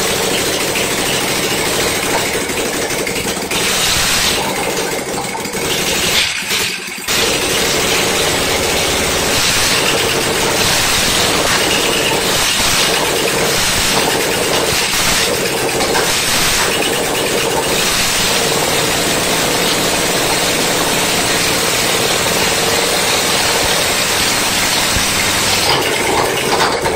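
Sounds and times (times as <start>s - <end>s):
riding mower engine running: 0.0s - 26.9s.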